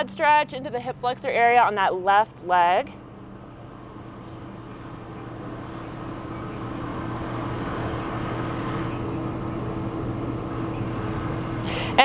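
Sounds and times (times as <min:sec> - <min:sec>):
motor vehicle humming: 0:00.0 - 0:12.0.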